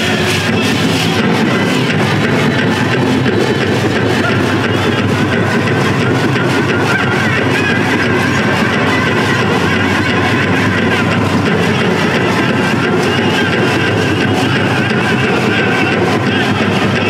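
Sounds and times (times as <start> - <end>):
drumbeats: 0.0 - 17.0.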